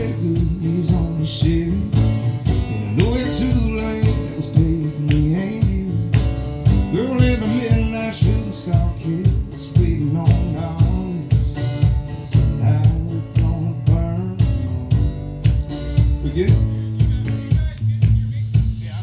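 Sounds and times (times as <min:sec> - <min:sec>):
man singing: 0:00.0 - 0:15.0, 0:16.1 - 0:19.0
electric guitar: 0:00.0 - 0:17.9
live country band: 0:00.0 - 0:19.0
steady drum beat: 0:00.0 - 0:19.0.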